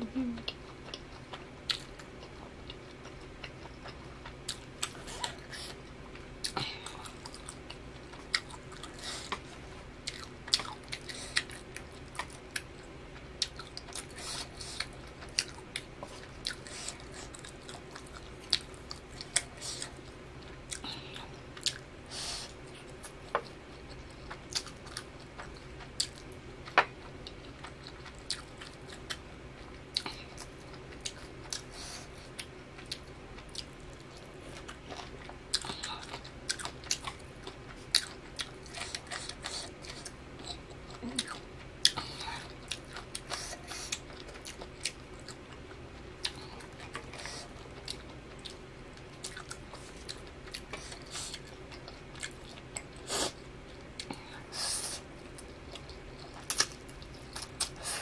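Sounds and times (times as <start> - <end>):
person chewing noodles: 0.2 - 58.0.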